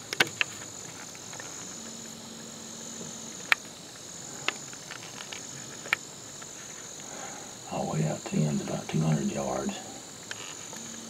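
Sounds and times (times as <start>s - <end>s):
crickets and insects chirring: 0.0s - 11.0s
faint low hum: 0.6s - 11.0s.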